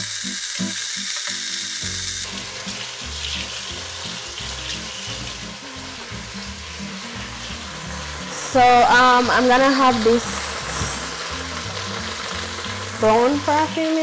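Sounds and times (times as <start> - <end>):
meat sizzling in hot oil: 0.0 - 14.0
background music: 0.3 - 14.0.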